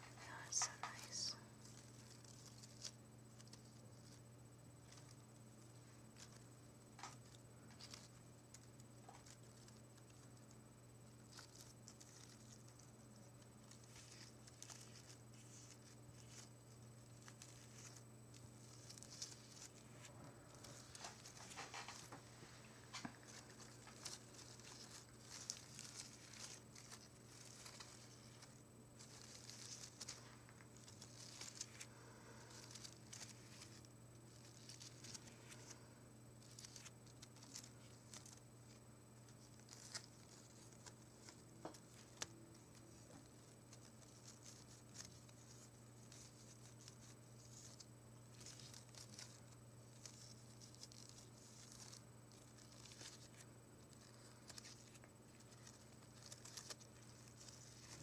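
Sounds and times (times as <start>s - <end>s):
flower bouquet rustling and crinkling: 0.0s - 58.0s.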